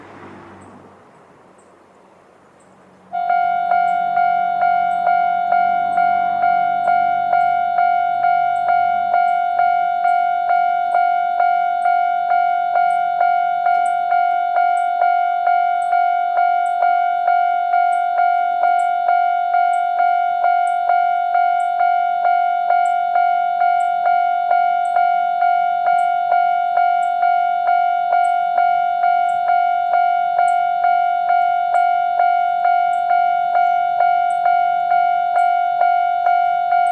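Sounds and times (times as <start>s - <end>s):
level crossing warning bell: 3.1s - 36.9s.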